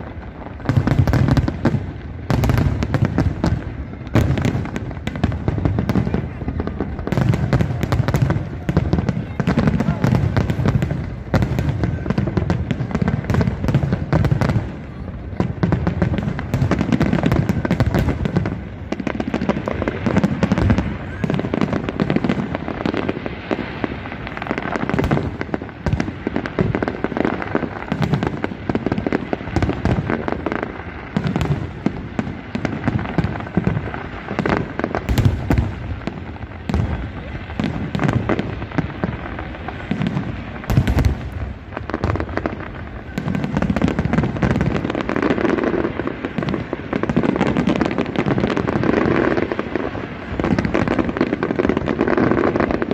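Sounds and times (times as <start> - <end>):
fireworks cracking and booming: 0.0 - 52.9.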